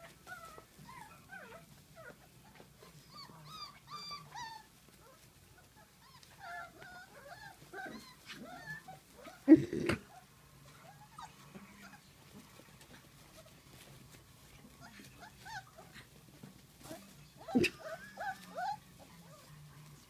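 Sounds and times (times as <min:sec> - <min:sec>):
puppies whining and squeaking: 0:00.0 - 0:20.0.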